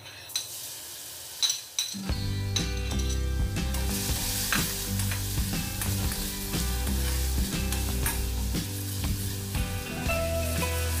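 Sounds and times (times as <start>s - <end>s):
garlic sizzling in oil: 0.3s - 2.2s, 3.4s - 11.0s.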